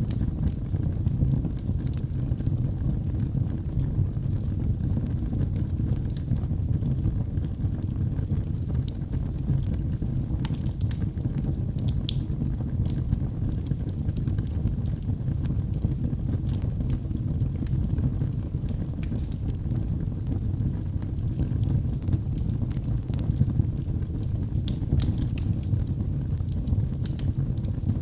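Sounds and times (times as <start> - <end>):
fire crackling and popping: 0.0 - 28.0
flames rumbling: 0.0 - 28.0.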